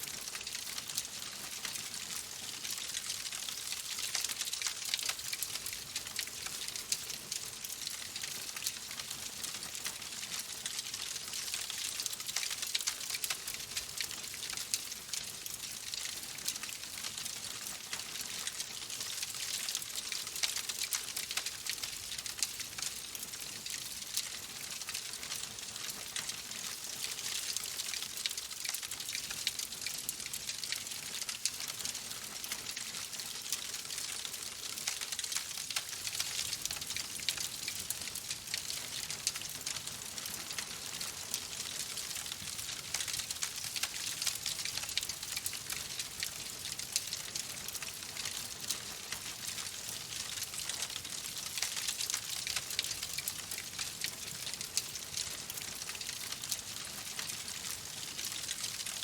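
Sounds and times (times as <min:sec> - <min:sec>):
wood fire crackling: 0:00.0 - 0:58.7.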